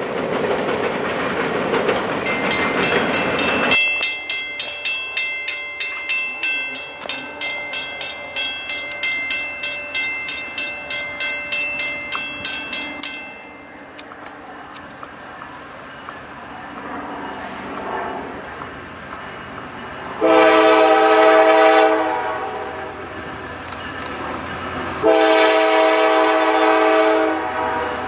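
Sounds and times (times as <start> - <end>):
freight cars rolling on rails: 0.0 - 28.0
railroad crossing bell ringing: 2.1 - 27.3.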